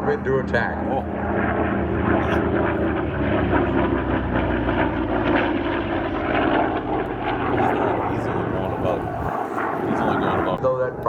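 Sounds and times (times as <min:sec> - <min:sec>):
propeller aircraft passing: 0:00.0 - 0:11.0.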